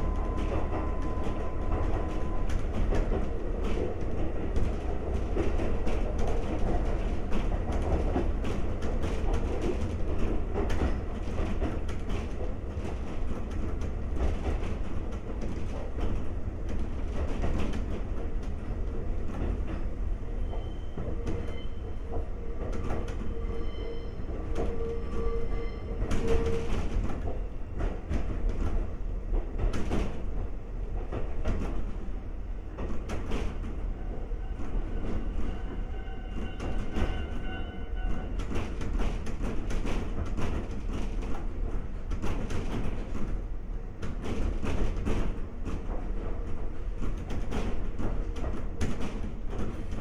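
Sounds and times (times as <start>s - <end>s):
train rumble with wheel clicks: 0.0s - 50.0s.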